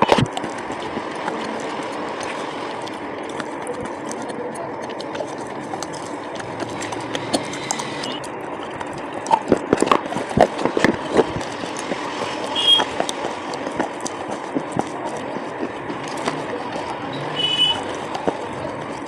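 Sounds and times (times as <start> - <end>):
background rumble and hiss: 0.0 - 19.0
crunching of pencils being chewed: 0.0 - 19.0.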